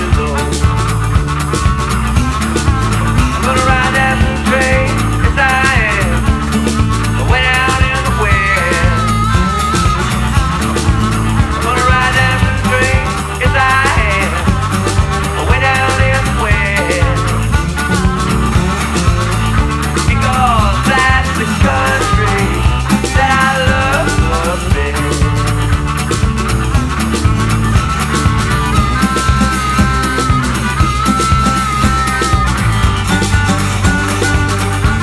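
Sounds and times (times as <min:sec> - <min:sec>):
bass line: 0:00.0 - 0:35.0
rock song: 0:00.0 - 0:35.0
sliding melody line: 0:00.0 - 0:35.0
steady drum beat: 0:00.0 - 0:35.0.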